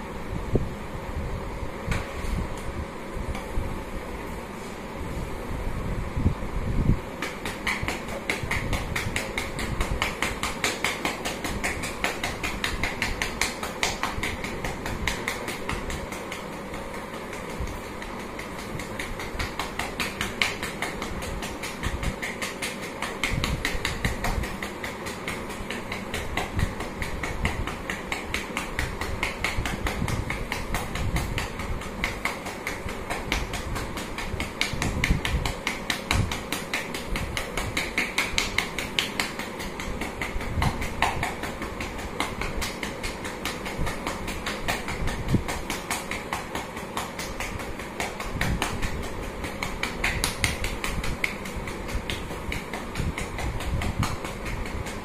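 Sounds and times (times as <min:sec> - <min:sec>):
hands patting a back: 0:07.1 - 0:55.0.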